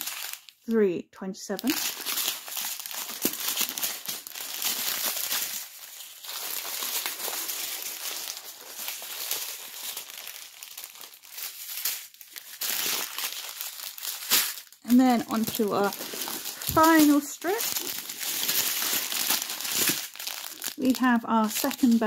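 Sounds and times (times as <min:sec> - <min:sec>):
plastic bags crinkling: 0:00.0 - 0:00.7, 0:01.5 - 0:22.0.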